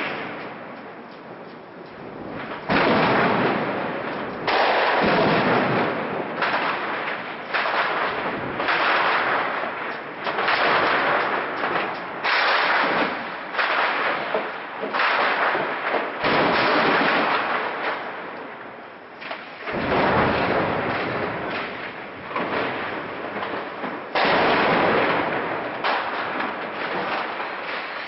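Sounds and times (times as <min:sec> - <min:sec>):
distant gunfire and blasts echoing: 0:02.2 - 0:28.0.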